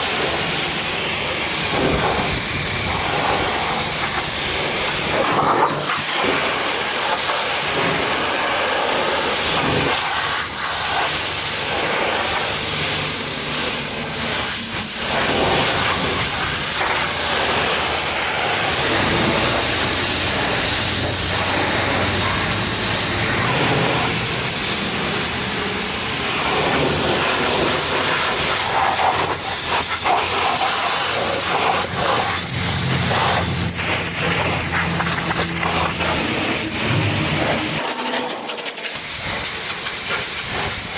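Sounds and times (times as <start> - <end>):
pressure washer spraying: 0.0 - 40.9.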